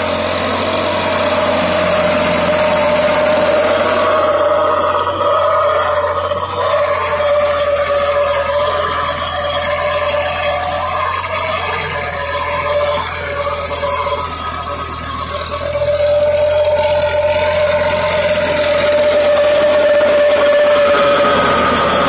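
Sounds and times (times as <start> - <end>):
machinery whine: 0.0 - 22.0
rotavator tilling soil: 0.0 - 22.0
tractor diesel engine under load: 0.0 - 22.0.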